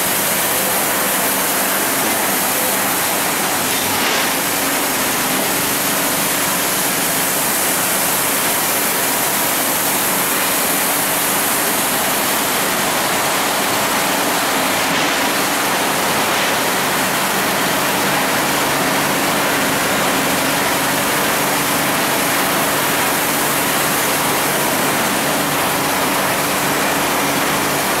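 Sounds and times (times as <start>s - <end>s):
factory machinery rushing noise: 0.0s - 28.0s.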